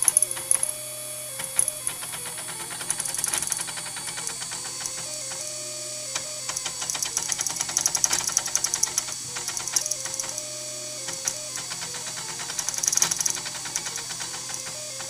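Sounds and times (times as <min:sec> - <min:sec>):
rapid clicking and clanking: 0:00.0 - 0:00.8, 0:01.4 - 0:15.0
stepper motors whining: 0:00.0 - 0:15.0.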